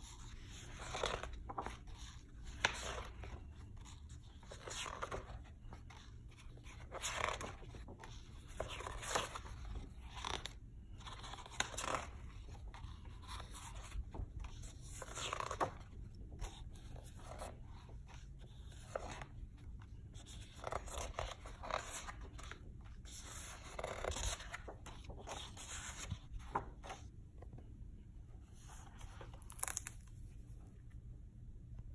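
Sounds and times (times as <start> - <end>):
book pages turning: 0.0 - 31.0.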